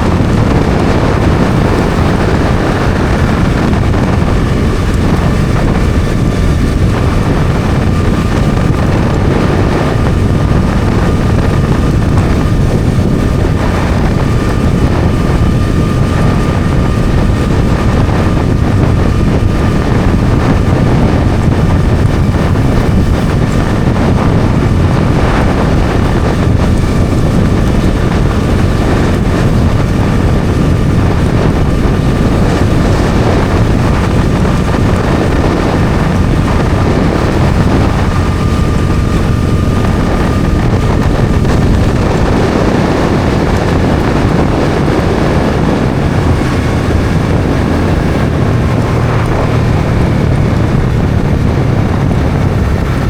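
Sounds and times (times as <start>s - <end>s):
motorcycle engine running: 0.0s - 53.0s
wind on microphone: 0.0s - 53.0s.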